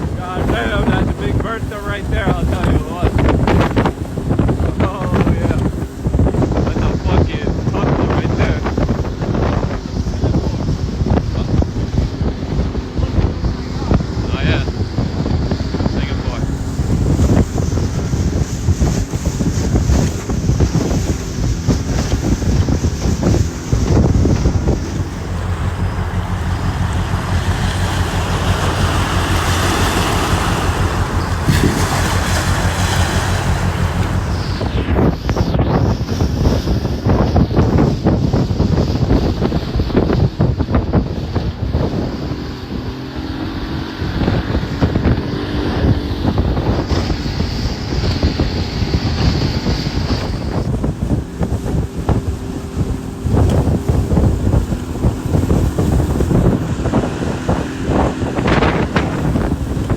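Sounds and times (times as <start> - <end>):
hull slapping on water: 0.0 - 59.9
outboard motor droning: 0.0 - 59.9
wind buffeting microphone: 0.0 - 59.9.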